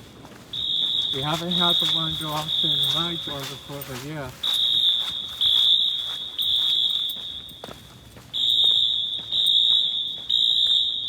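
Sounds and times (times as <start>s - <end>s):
fire alarm horn blasts: 0.5s - 11.0s.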